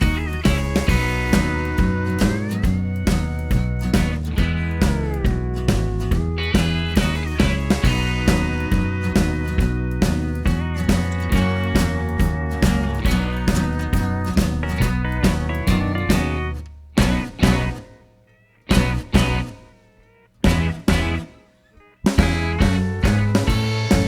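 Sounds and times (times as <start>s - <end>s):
guitar music with steady beat: 0.0s - 24.0s.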